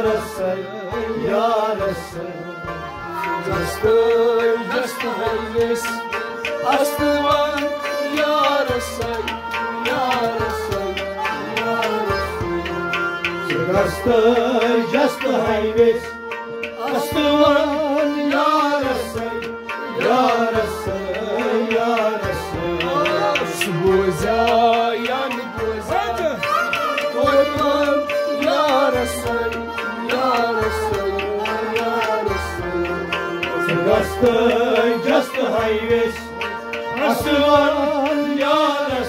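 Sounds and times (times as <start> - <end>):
harmonium chords: 0.0 - 39.0
man singing: 0.0 - 39.0.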